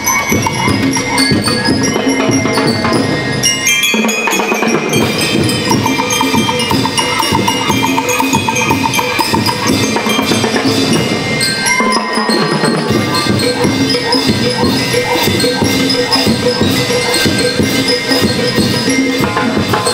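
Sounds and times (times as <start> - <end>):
bell lyre melody: 0.0 - 19.9
marching drums: 0.0 - 19.9.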